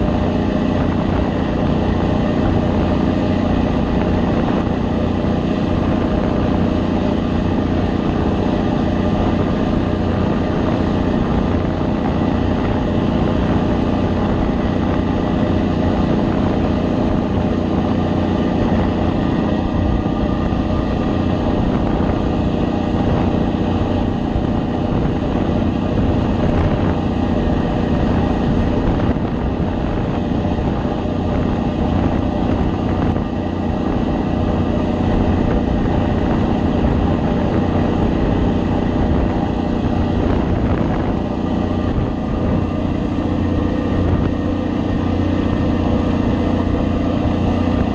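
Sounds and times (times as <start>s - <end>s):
boat engine droning: 0.0s - 47.9s
water rushing in wake: 0.0s - 47.9s.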